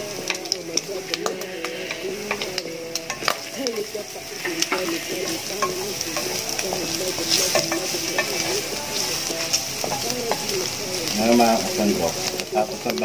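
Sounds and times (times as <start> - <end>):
meat sizzling in a frying pan: 0.0 - 13.0
utensil scraping a pan: 0.2 - 13.0.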